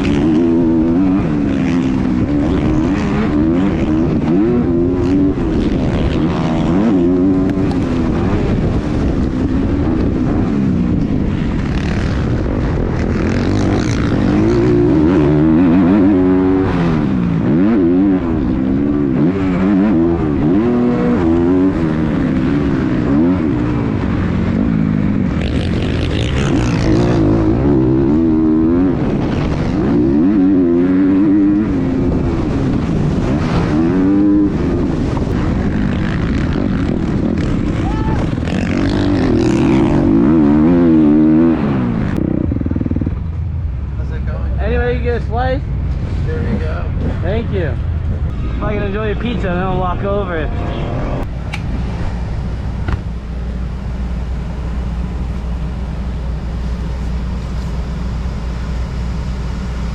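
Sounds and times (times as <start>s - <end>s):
dirt bike engines racing: 0.0s - 59.9s.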